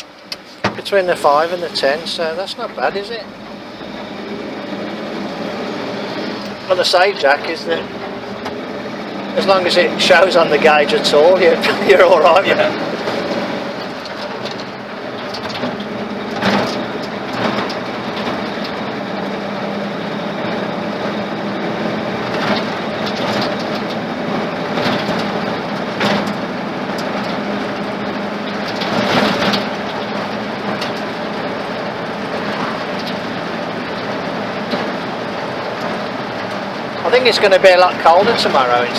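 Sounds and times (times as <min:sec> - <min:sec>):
truck engine and road drone: 0:00.0 - 0:38.9
body rattles and knocks: 0:00.4 - 0:38.9.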